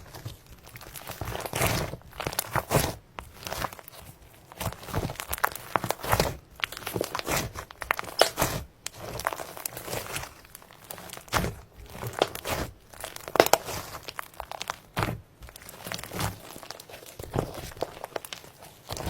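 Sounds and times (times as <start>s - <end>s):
slime crackling and popping: 0.0s - 19.0s.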